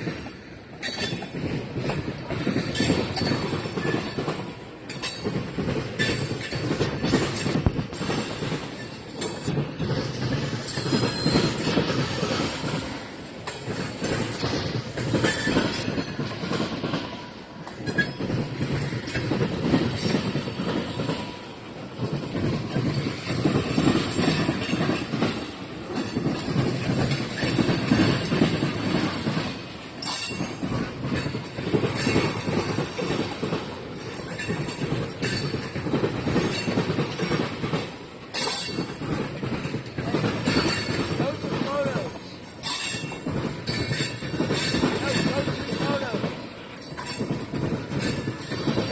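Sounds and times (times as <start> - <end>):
freight train rolling past: 0.0 - 48.9
wheel clicks over rail joints: 0.0 - 48.9.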